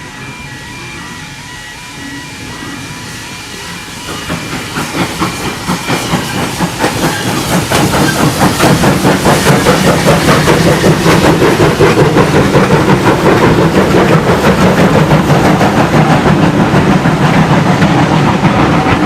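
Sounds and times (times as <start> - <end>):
steam hissing: 0.0 - 19.0
steam locomotive exhaust beats: 0.0 - 19.0.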